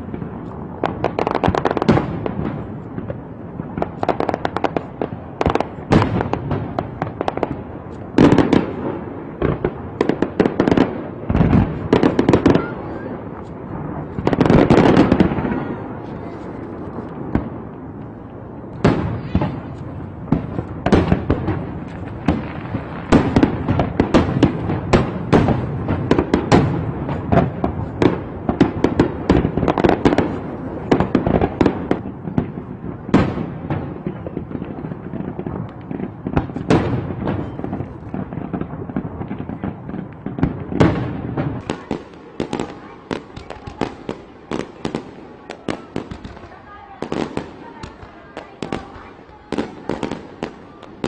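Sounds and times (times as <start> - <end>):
fireworks exploding and crackling: 0.0 - 51.0.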